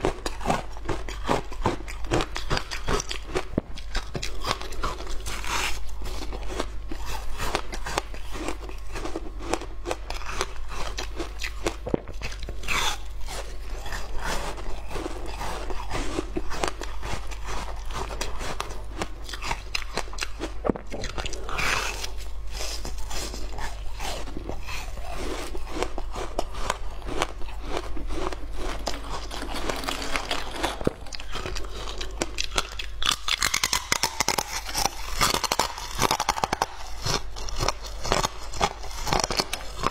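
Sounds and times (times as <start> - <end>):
crunching and chewing ice: 0.0 - 39.9
steady low hum: 0.0 - 39.9.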